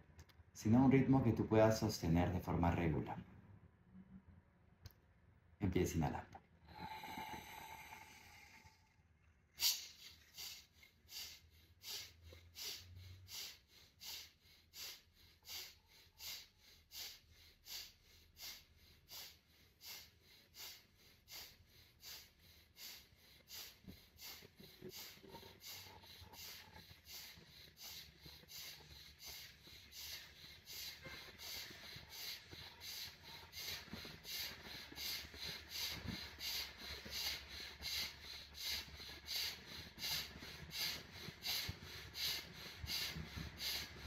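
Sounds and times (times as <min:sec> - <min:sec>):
rapid nasal breathing: 0:06.6 - 0:09.0, 0:09.6 - 0:44.0.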